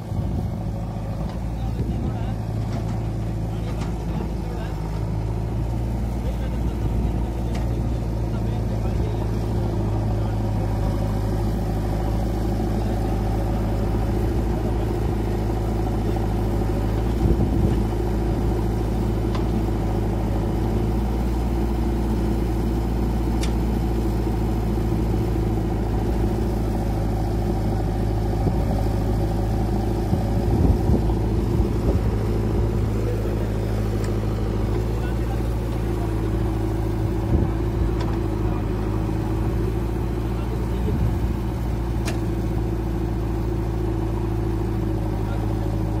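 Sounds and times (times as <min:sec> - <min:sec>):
diesel engines running: 0:00.0 - 0:46.0.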